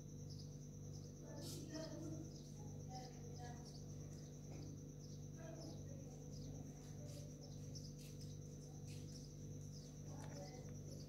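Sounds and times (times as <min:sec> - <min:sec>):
cricket chirring: 0:00.0 - 0:11.0
low electrical hum: 0:00.0 - 0:11.0.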